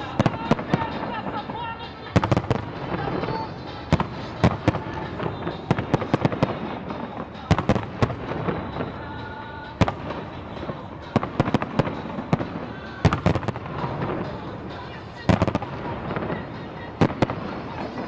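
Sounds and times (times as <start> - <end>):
fireworks bangs: 0.0 - 18.0
fireworks rumble and crackle: 0.0 - 18.0.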